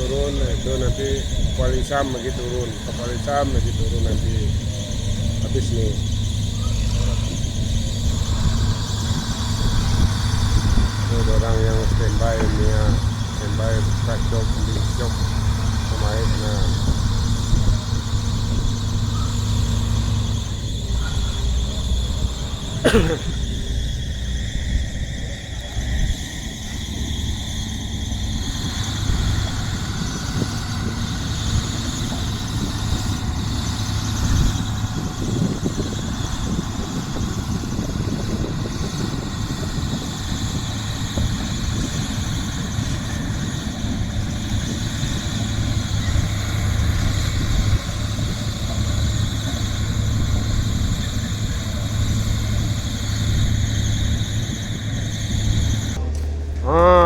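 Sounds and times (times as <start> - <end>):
heavy machinery engine running: 0.0 - 57.0
high-pitched squeal: 0.0 - 57.0.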